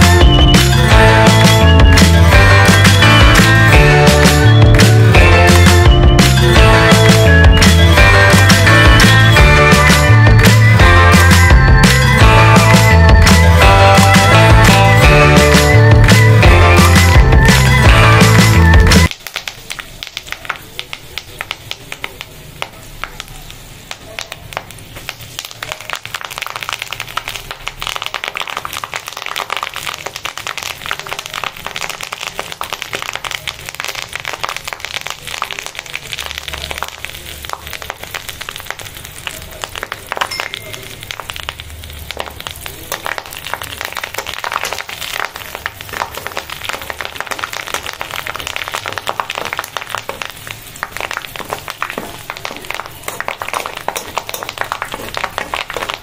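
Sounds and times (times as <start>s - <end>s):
butter sizzling and popping: 0.0s - 56.0s.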